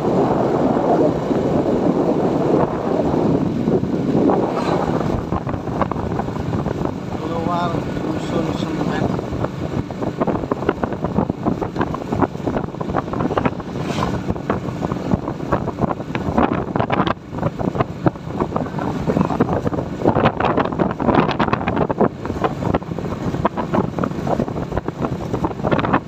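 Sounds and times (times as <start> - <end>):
motorcycle engine: 0.0 - 26.0
road noise: 0.0 - 26.0
wind buffeting the microphone: 0.0 - 26.0.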